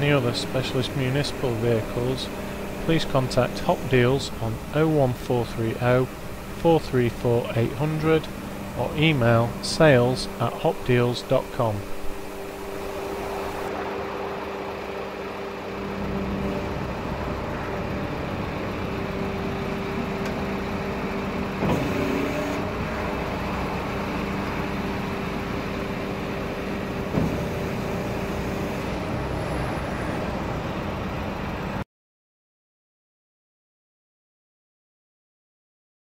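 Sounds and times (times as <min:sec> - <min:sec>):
diesel engine running: 0:00.0 - 0:31.8
hydraulic bin lift hum: 0:00.0 - 0:31.8.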